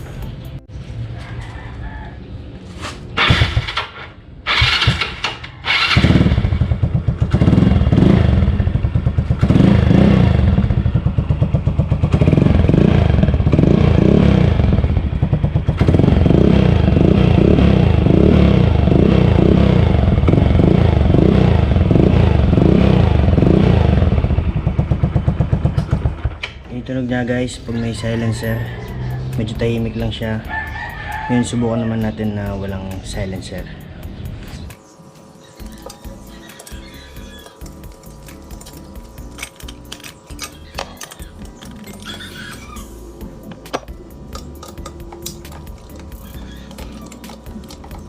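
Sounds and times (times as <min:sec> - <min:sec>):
scooter engine starting and revving: 0:03.1 - 0:32.7, 0:33.5 - 0:48.0.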